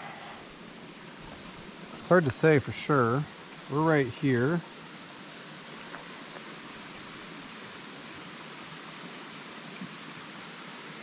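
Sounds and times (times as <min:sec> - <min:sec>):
high pulsing insect chirp: 0:00.0 - 0:11.0
insects droning: 0:00.0 - 0:11.0.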